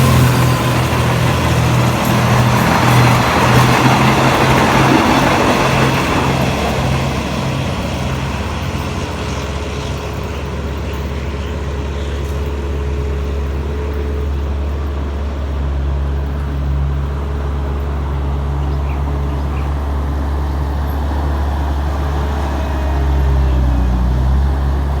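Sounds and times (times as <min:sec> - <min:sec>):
diesel train engine droning: 0:00.0 - 0:25.0.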